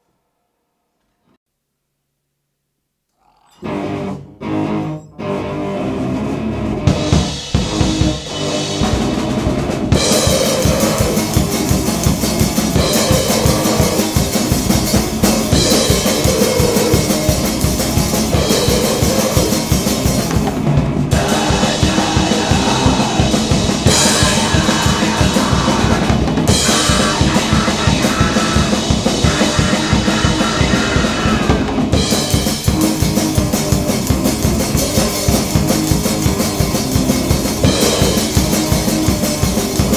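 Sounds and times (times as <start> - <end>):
grindcore band playing: 3.6 - 39.9
rapid dense drumming: 6.8 - 39.9.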